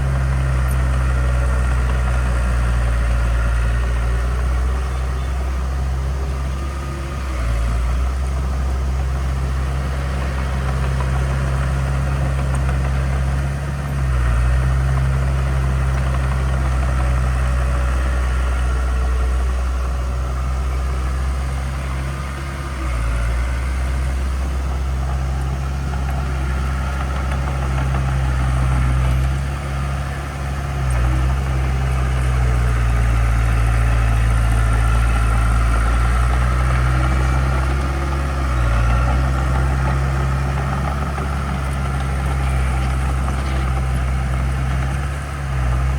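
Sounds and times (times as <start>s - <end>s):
diesel engine humming: 0.0s - 45.9s.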